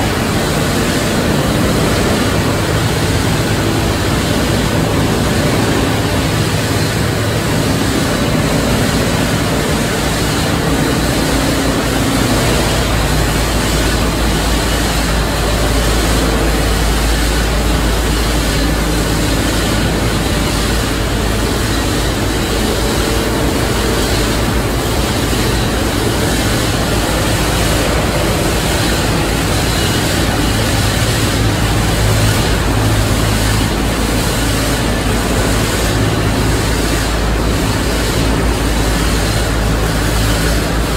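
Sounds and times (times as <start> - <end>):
loud machinery with low hum: 0.0 - 40.9.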